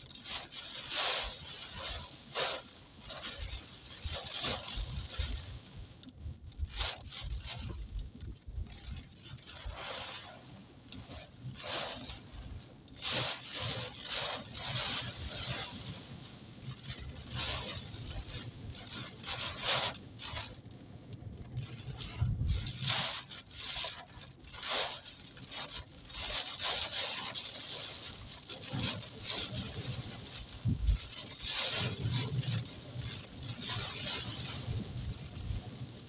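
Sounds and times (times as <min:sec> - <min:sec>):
low road rumble: 0:00.0 - 0:36.0
rain on car: 0:00.0 - 0:36.0
windscreen wipers swishing: 0:00.0 - 0:36.0.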